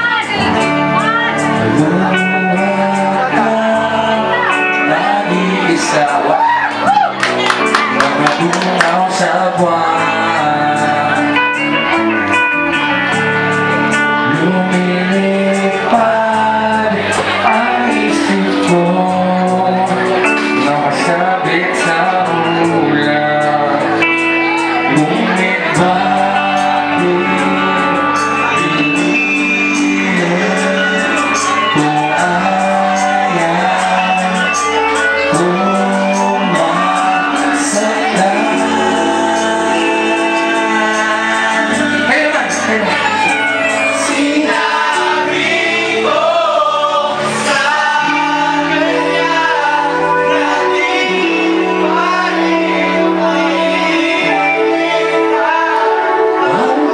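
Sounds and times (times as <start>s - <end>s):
acoustic guitar accompaniment: 0.0s - 56.9s
person singing: 0.0s - 56.9s.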